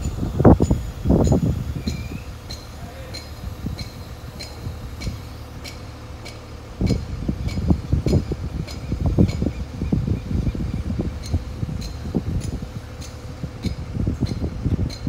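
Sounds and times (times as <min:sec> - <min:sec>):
truck engine running: 0:00.0 - 0:15.0
wind buffeting microphone: 0:00.0 - 0:15.0.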